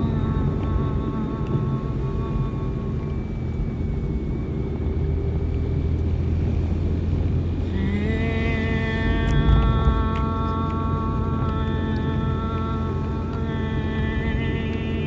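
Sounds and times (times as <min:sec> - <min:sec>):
deep droning tone: 0:00.0 - 0:15.0
higher sustained tone: 0:00.0 - 0:15.0.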